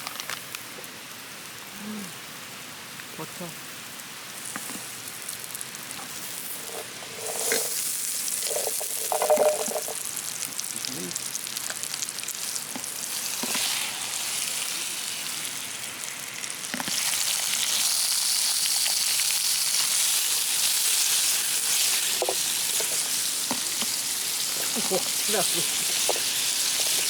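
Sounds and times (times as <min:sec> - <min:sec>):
food sizzling in a pan: 0:01.0 - 0:27.0.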